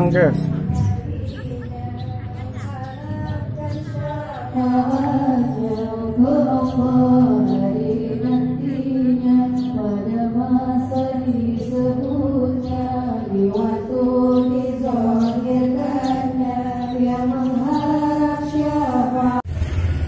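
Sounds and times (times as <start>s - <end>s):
music: 0.0s - 19.4s.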